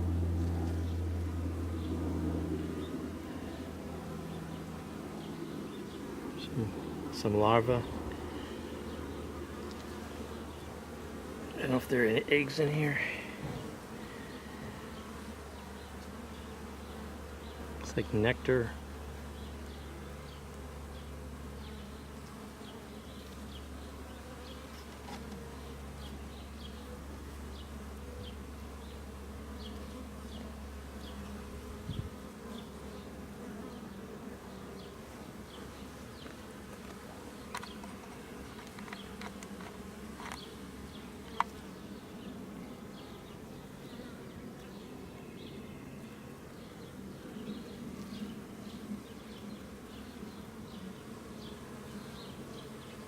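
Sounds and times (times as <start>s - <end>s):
honey bees buzzing: 0.0s - 53.0s.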